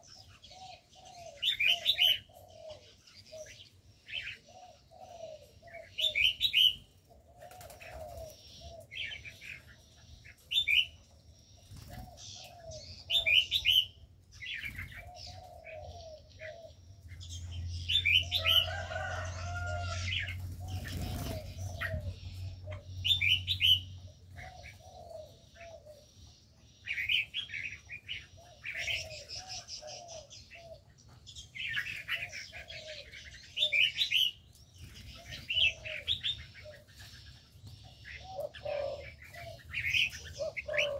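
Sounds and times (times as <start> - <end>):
bulbuls chirping and whistling: 0.0 - 40.9
doves cooing: 0.0 - 40.9.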